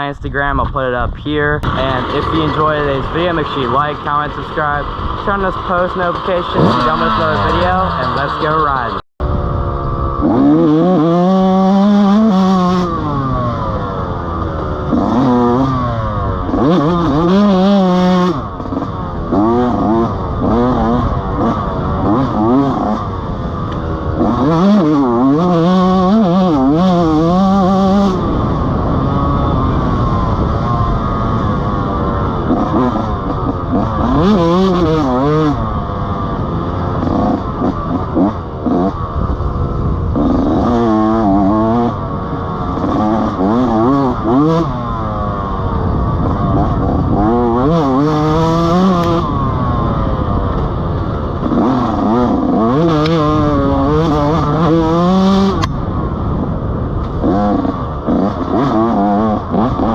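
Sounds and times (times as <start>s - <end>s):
dirt bike engine revving: 1.6s - 59.9s.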